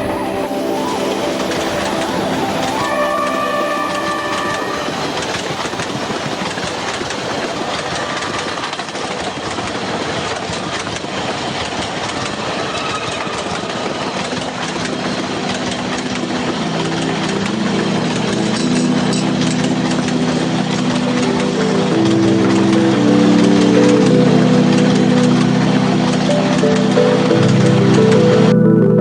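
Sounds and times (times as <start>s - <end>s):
rail cars rumbling on track: 0.0s - 24.2s.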